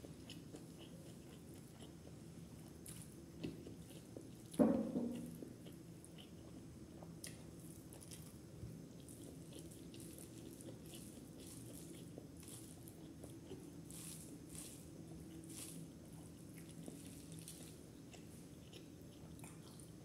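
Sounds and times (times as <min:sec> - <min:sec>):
person chewing: 0:00.0 - 0:04.6, 0:05.2 - 0:08.3, 0:08.9 - 0:20.0.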